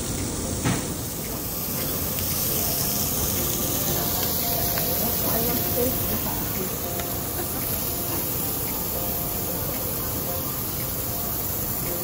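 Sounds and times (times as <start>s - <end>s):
meat sizzling on a grill plate: 0.0s - 12.0s.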